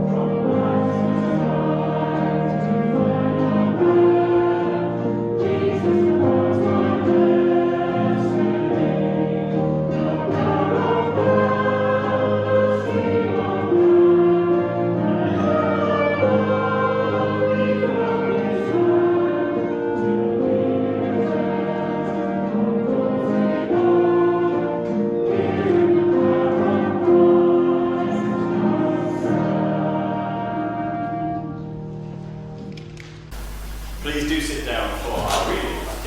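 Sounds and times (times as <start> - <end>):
congregation singing a hymn: 0.0 - 32.4, 33.3 - 36.0.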